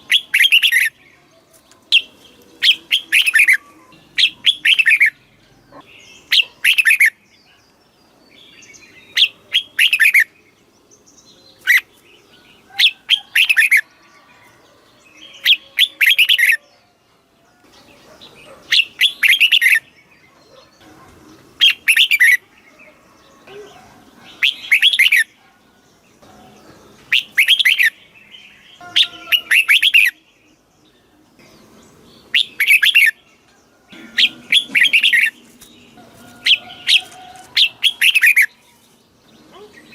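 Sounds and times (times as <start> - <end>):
bird singing warbling phrases: 0.0 - 14.3, 15.0 - 16.9, 17.6 - 39.9.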